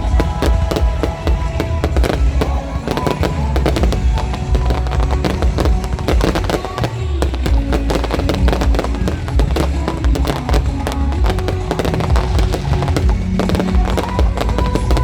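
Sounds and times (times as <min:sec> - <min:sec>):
fireworks bursting and crackling: 0:00.0 - 0:15.0
loud music: 0:00.0 - 0:15.0.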